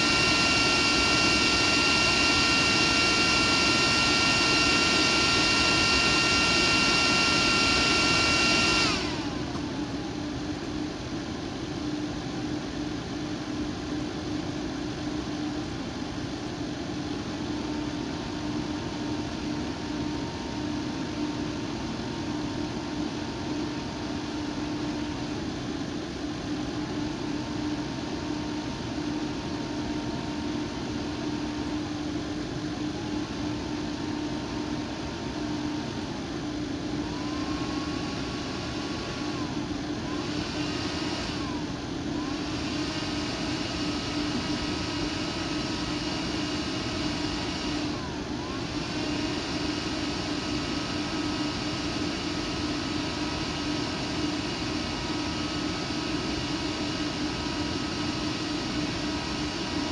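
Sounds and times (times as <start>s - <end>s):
computer fan whirring: 0.0s - 59.9s.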